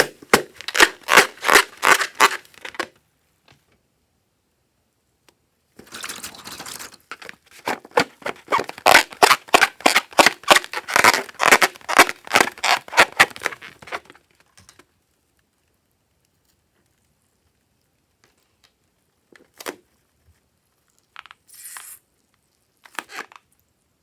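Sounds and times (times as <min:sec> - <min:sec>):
slime worked by hand: 0:00.0 - 0:02.9, 0:05.8 - 0:24.0.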